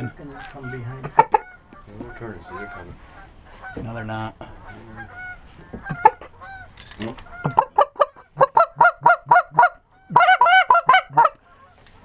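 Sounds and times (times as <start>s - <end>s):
goose call honks and clucks: 0.0s - 11.8s.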